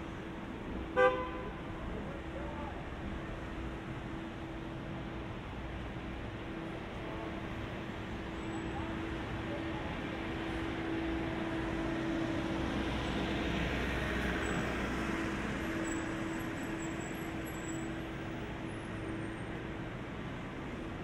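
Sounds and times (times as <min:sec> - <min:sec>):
street traffic rush: 0:00.0 - 0:21.0.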